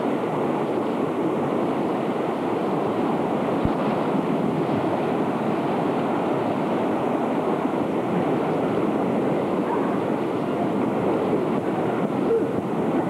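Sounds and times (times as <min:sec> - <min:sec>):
stream torrent roaring: 0:00.0 - 0:13.0.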